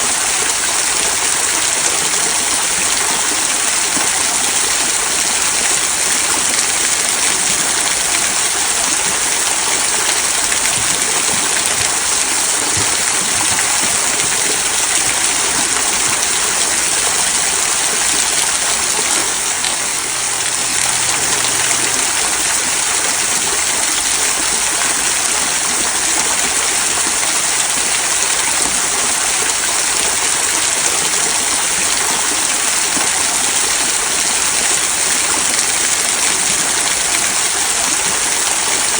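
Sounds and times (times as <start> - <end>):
waterfall splashing over rocks: 0.0 - 38.9.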